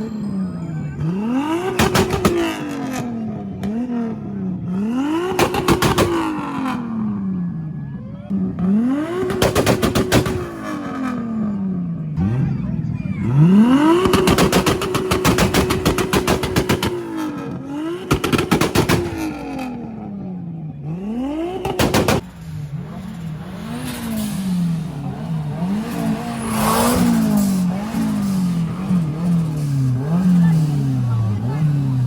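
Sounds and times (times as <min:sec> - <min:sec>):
car engine revving to limiter: 0:00.0 - 0:32.0.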